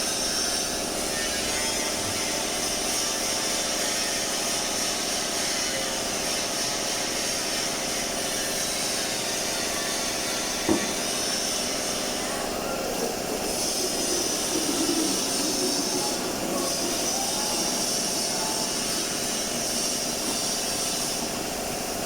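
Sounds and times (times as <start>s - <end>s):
shop machinery hiss and drone: 0.0s - 22.0s.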